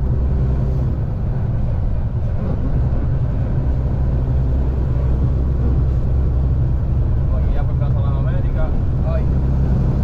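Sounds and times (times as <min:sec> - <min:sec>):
diesel truck engine droning: 0:00.0 - 0:10.0.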